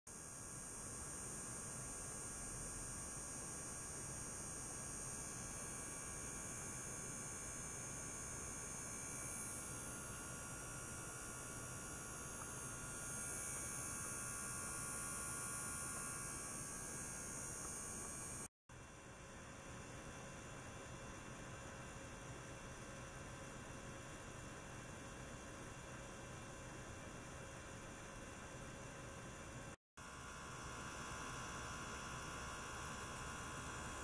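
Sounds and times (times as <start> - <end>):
electric pump humming and whining: 0.1 - 34.0.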